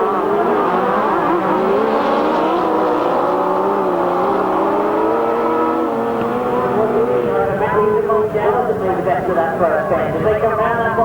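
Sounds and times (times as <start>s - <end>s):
racing motorcycles engines: 0.0s - 9.6s.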